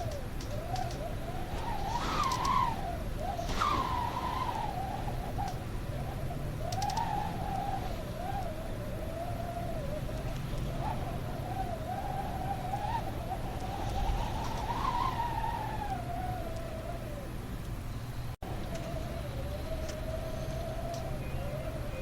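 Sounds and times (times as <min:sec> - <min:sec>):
wind howling: 0:00.0 - 0:22.0.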